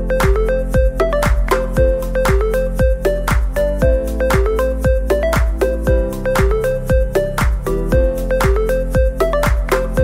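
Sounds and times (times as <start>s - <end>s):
low kick drums: 0.0s - 10.0s
upbeat electronic music: 0.0s - 10.0s.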